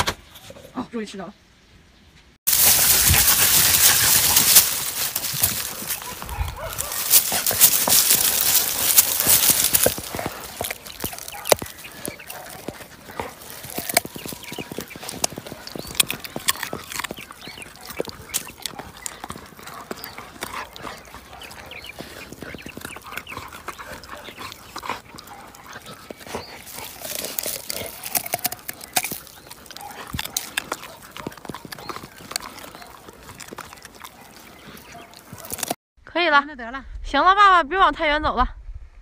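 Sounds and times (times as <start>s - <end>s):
dog crunching and chewing: 2.5s - 35.8s.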